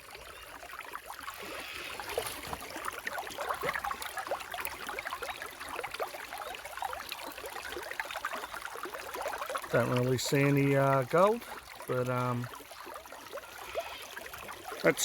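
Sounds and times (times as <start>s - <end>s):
river water gurgling: 0.0s - 15.0s.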